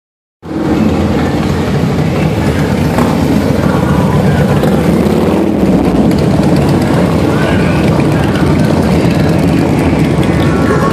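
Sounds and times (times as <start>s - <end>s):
motorcycles riding past: 0.5s - 10.9s.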